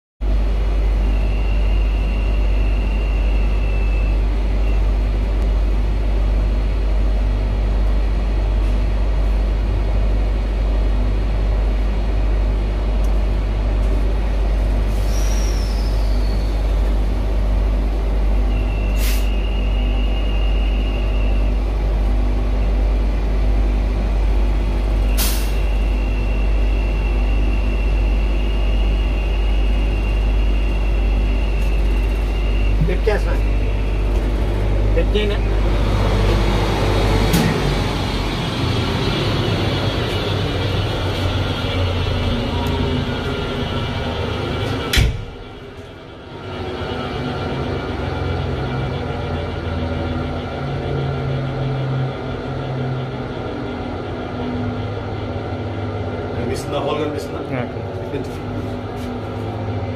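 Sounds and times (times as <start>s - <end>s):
locomotive machinery drone: 0.2s - 59.9s.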